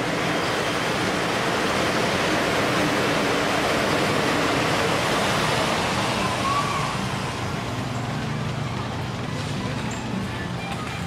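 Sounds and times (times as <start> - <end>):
monorail train passing: 0.0 - 11.0.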